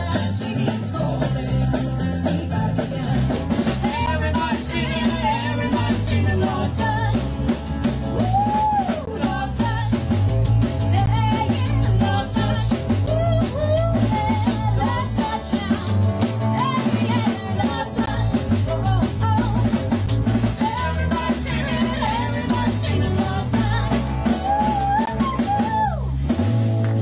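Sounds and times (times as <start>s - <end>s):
bass guitar: 0.0s - 27.0s
drum kit: 0.0s - 27.0s
guitar: 0.0s - 27.0s.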